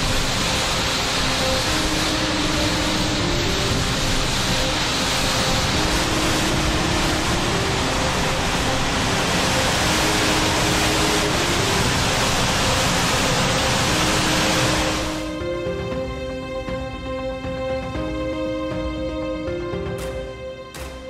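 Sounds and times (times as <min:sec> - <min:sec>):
driving rain: 0:00.0 - 0:21.0.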